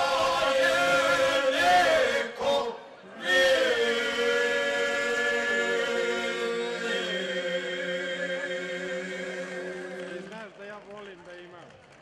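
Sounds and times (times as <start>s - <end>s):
male choir singing unaccompanied: 0.0s - 10.4s.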